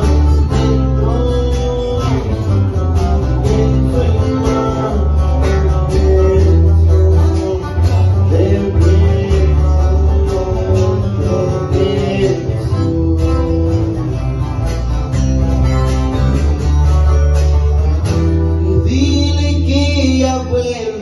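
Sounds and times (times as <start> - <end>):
deep bass line: 0.0 - 21.0
plucked lead guitar: 0.0 - 21.0
strummed acoustic guitar: 0.0 - 21.0.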